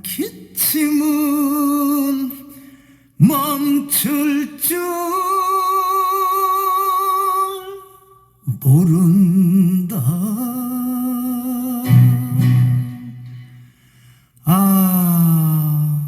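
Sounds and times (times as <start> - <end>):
person singing with vibrato: 0.0 - 16.0.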